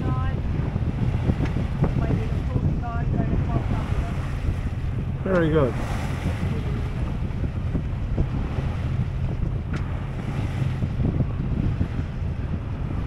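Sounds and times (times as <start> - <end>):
water washing past hull: 0.0 - 13.0
wind buffeting microphone: 0.0 - 13.0.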